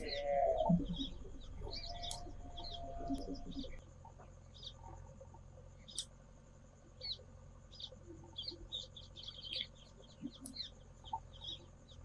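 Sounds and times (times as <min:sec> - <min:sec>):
low steady background noise: 0:00.0 - 0:12.0
small birds chirping: 0:00.0 - 0:12.0.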